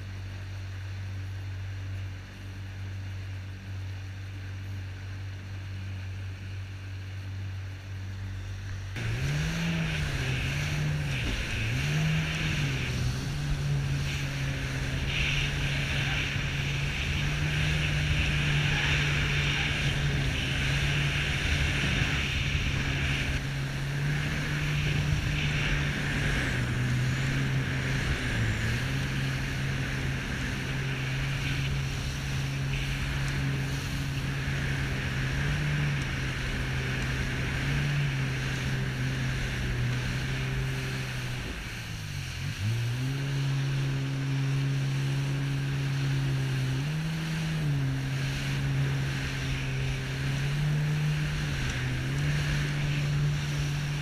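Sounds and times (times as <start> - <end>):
jet ski engine running: 0.0 - 54.0
water and wind rushing: 0.0 - 54.0.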